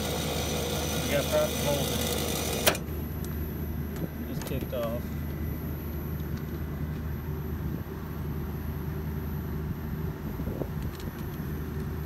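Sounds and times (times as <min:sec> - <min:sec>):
air conditioner outdoor unit humming: 0:00.0 - 0:12.0.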